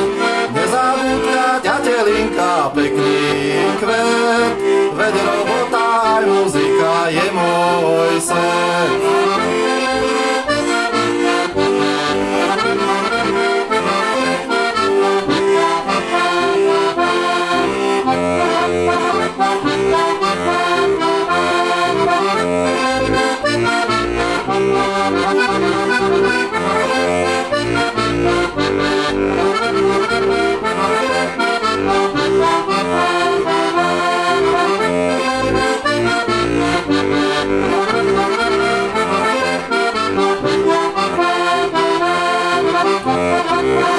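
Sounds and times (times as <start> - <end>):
button accordion folk tune: 0.0 - 43.9.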